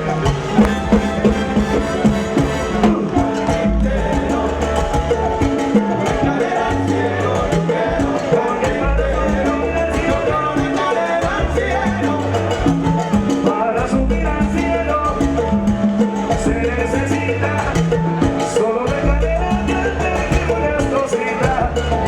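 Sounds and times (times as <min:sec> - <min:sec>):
salsa band playing: 0:00.0 - 0:22.0.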